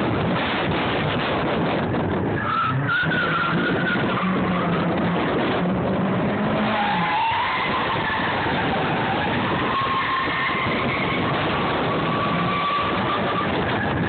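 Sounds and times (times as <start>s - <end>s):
car engine running hard: 0.0s - 14.0s
tires squealing: 0.0s - 14.0s.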